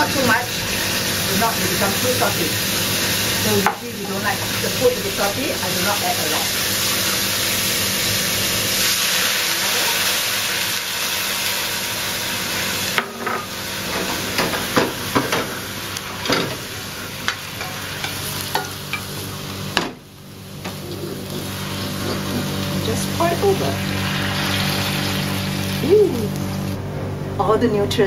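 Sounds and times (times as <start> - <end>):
sauce sizzling in a wok: 0.0 - 26.8.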